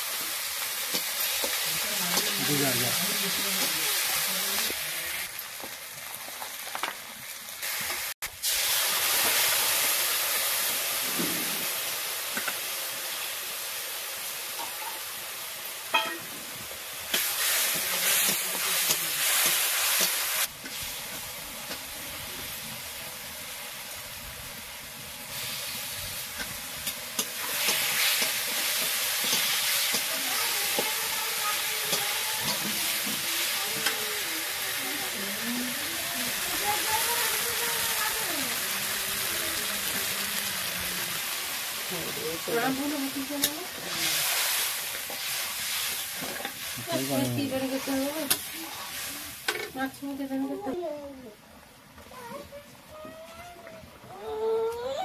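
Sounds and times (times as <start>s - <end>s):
oil sizzling with frying fish: 0.0s - 54.6s.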